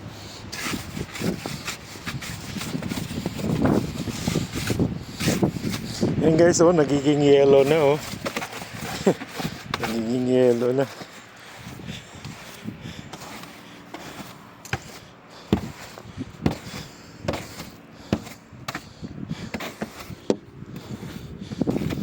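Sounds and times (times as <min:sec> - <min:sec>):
ice scraper scraping ice: 0:00.4 - 0:06.2, 0:06.8 - 0:22.0.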